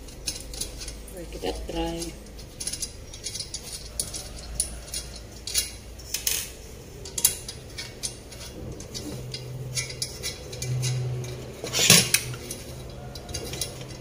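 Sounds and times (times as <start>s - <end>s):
metal clink: 0.0s - 14.0s.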